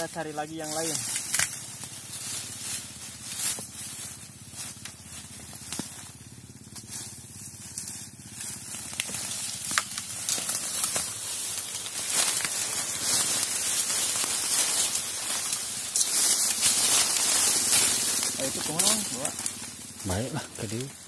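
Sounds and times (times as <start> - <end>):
footsteps on dry leaves: 0.0 - 21.0
twigs snapping: 0.7 - 3.9, 4.6 - 6.2, 7.7 - 21.0.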